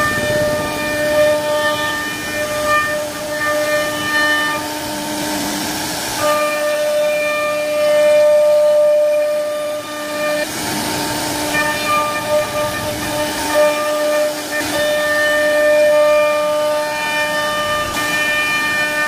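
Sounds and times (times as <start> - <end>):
bit cutting wood hiss: 0.0 - 19.0
router spindle whine: 0.0 - 19.0.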